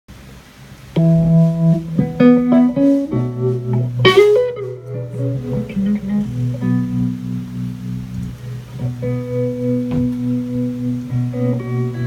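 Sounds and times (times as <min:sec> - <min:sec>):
guitar notes ringing: 0:01.0 - 0:12.0.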